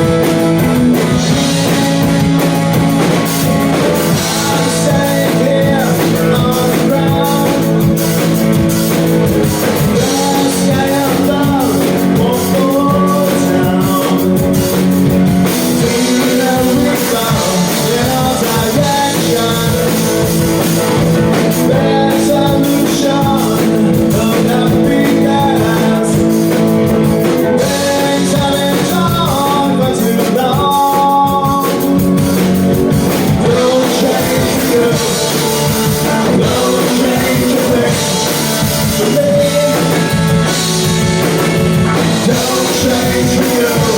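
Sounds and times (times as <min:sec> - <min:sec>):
rock music with singer: 0:00.0 - 0:43.9.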